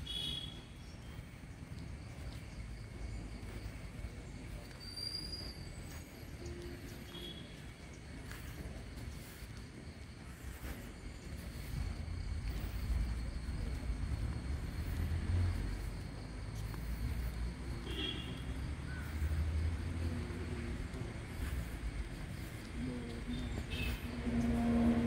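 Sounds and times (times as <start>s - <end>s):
faint chirps: 0.0s - 20.2s.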